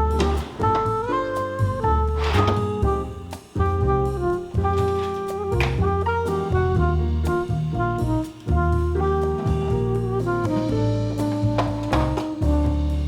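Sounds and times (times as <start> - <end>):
jazz music with horns and drums: 0.0 - 13.0.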